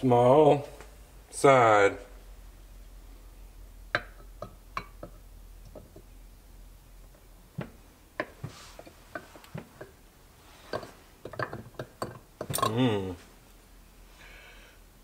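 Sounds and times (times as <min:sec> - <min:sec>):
faint hiss: 0:00.0 - 0:11.3, 0:12.5 - 0:15.0.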